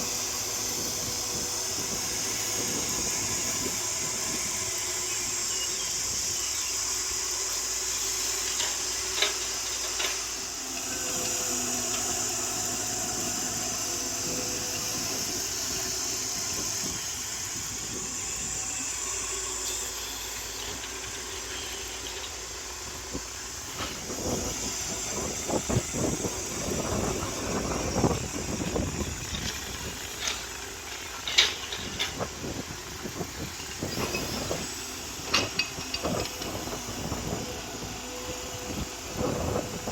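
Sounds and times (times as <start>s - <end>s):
excavator diesel engine running: 0.0s - 39.9s
high hiss: 0.0s - 39.9s.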